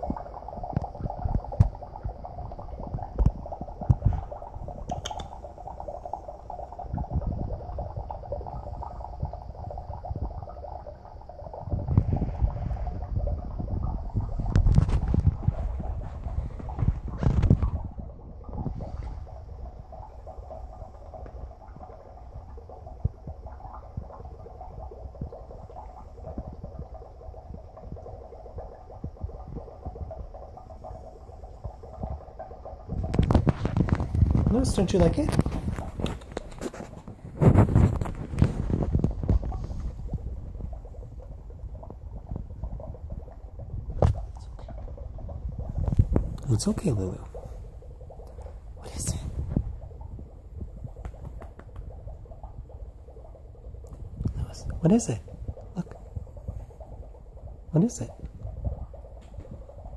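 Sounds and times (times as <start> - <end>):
dry ice bubbling in water: 0.0 - 59.9.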